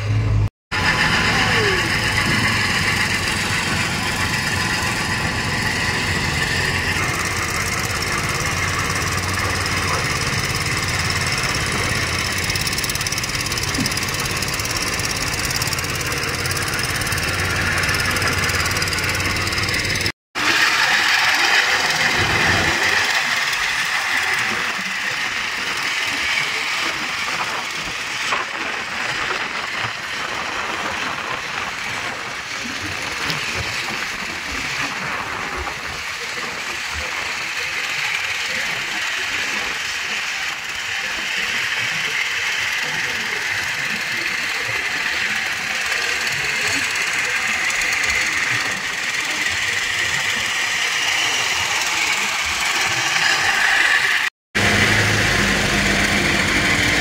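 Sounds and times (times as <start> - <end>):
high whirring: 0.0 - 57.0
machine engines low rumble: 0.0 - 57.0.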